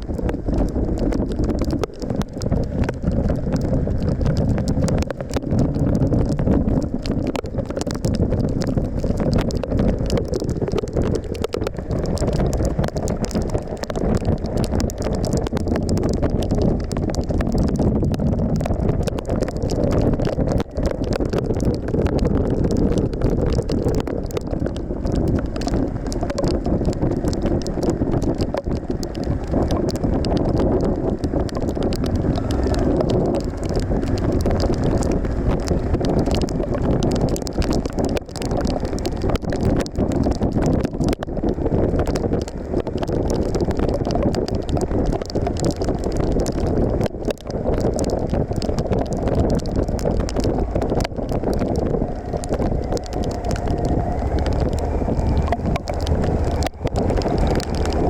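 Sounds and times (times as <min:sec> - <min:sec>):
motorcycle engine and road rumble: 0:00.0 - 0:58.0
small crackles: 0:00.0 - 0:58.0
wind buffeting microphone: 0:00.0 - 0:58.0.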